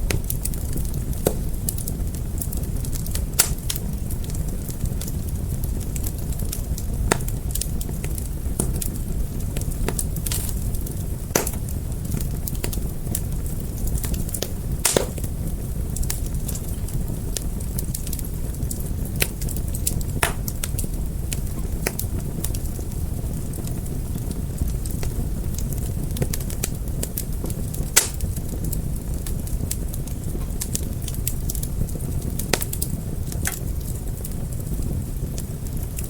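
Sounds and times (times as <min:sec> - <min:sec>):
fire pops and snaps: 0:00.0 - 0:36.0
low rumble of flames: 0:00.0 - 0:36.0.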